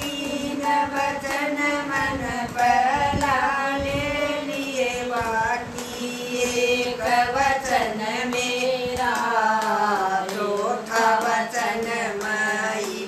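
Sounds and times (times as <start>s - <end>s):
hand claps: 0.0s - 13.0s
women singing devotional folk song: 0.0s - 13.0s.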